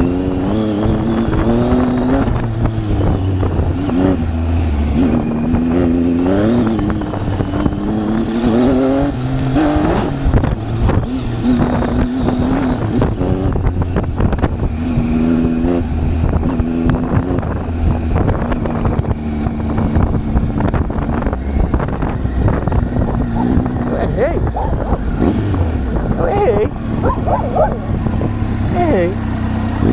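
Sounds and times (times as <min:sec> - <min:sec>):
motorcycle engine revving: 0:00.0 - 0:29.9
wind buffeting microphone: 0:00.0 - 0:29.9.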